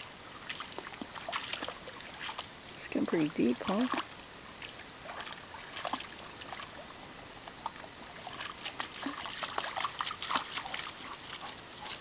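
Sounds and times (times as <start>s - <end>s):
dog splashing in stream: 0.0s - 6.8s, 8.1s - 12.0s.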